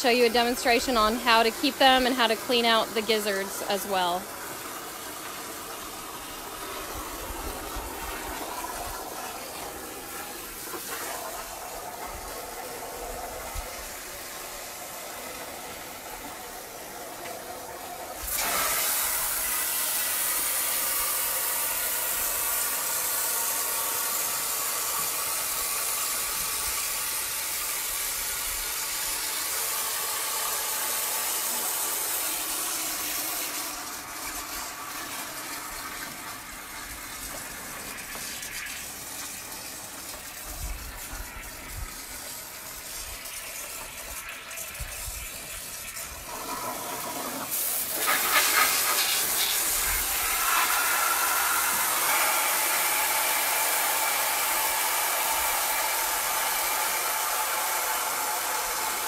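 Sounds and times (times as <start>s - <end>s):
water rushing from a hose: 0.0s - 59.0s.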